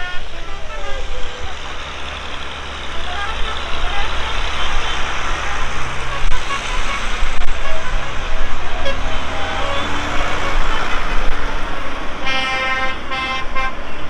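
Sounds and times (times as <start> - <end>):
vehicle horn: 0.0 - 2.3, 2.9 - 14.0
tractor engines driving past: 0.0 - 14.0.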